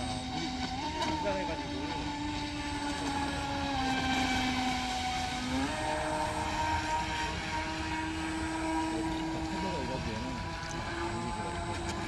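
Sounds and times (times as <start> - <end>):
toy speedboat motor droning: 0.0 - 12.0.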